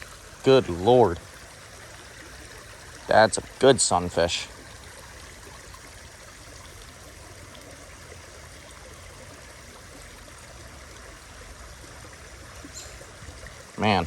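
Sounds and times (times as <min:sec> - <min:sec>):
creek water rippling: 0:00.0 - 0:14.0.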